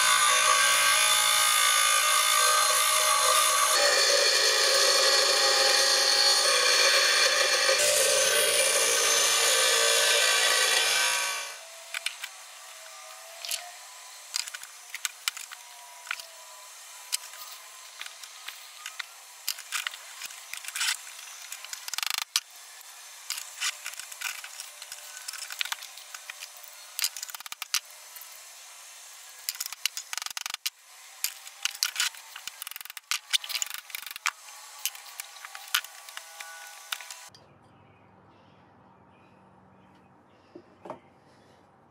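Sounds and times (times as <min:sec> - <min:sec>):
bench grinder grinding metal: 0:00.0 - 0:37.3.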